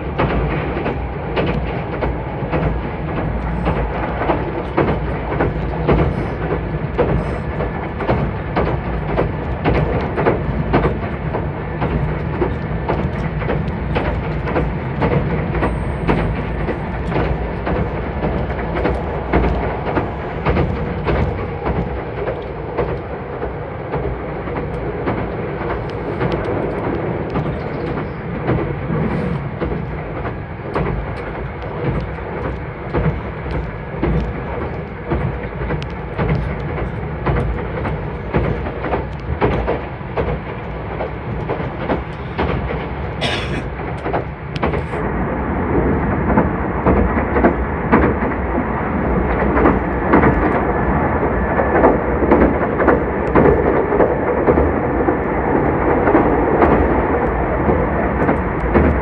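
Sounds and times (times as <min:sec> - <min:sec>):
train wheels rumbling: 0:00.0 - 0:59.0
wheels clicking over rail joints: 0:00.0 - 0:59.0.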